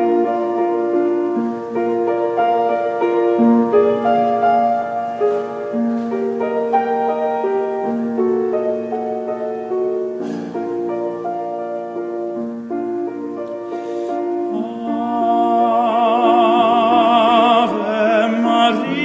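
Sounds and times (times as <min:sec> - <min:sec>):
slow gentle piano music: 0:00.0 - 0:19.0.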